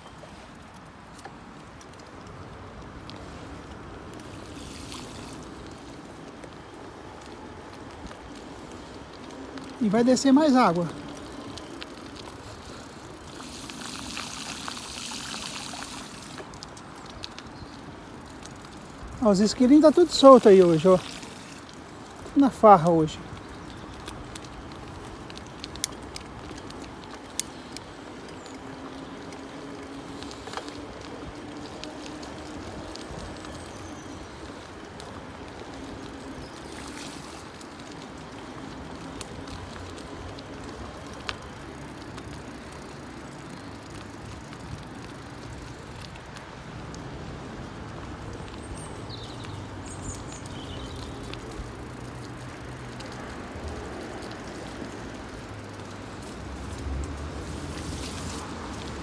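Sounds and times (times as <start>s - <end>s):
bicycle tyres on wet path: 0.0s - 59.0s
sharp clicks from bumps: 0.0s - 59.0s.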